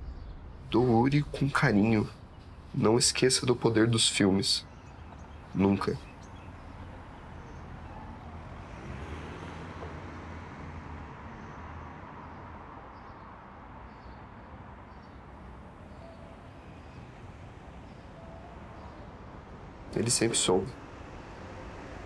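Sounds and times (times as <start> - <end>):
low background noise: 0.0 - 8.6, 12.7 - 22.0.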